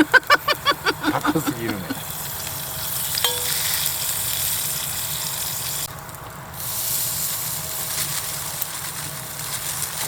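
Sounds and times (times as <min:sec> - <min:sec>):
squid sizzling in a pan: 0:01.6 - 0:10.0.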